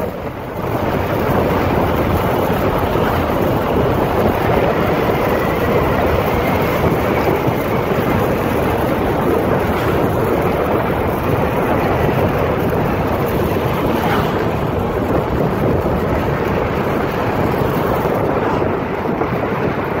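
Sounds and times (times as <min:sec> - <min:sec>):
scooter running and tyre noise: 0:00.0 - 0:20.0
wind buffeting microphone: 0:00.0 - 0:20.0.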